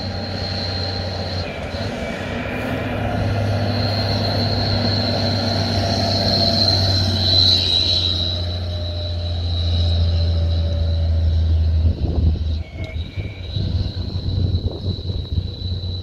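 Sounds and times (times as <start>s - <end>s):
high turbo whistle: 0.0s - 16.0s
truck engine drone: 0.0s - 16.0s.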